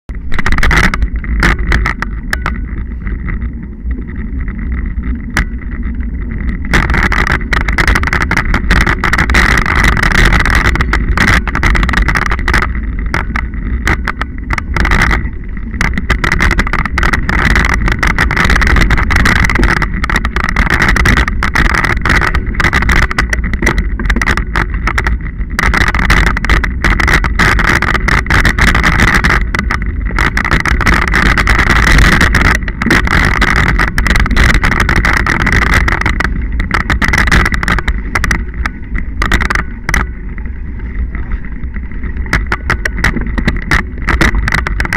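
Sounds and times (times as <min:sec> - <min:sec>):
bike tyre noise: 0:00.0 - 0:44.9
wind rumble on microphone: 0:00.0 - 0:44.9
bike rattling and knocking: 0:00.1 - 0:44.9.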